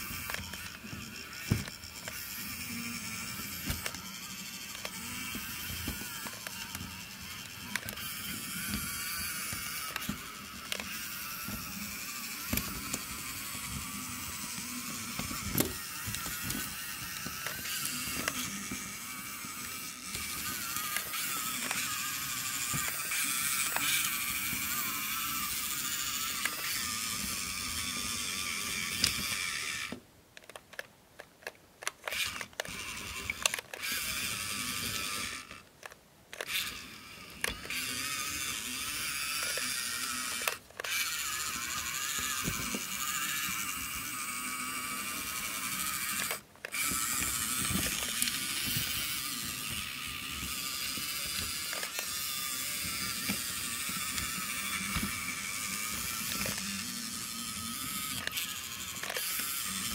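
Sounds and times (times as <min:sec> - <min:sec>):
small electric motor whirring: 0:00.0 - 0:30.0, 0:31.4 - 0:59.9
toy tracks and bricks clattering: 0:00.0 - 0:59.9.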